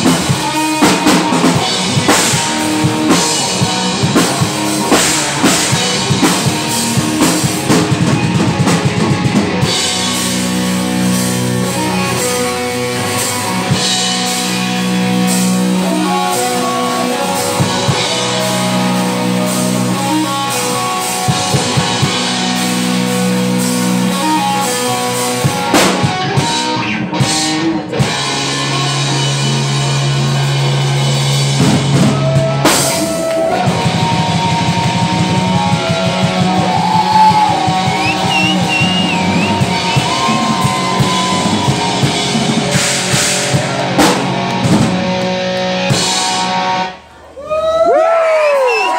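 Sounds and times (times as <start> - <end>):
live rock band playing: 0.0 - 47.2.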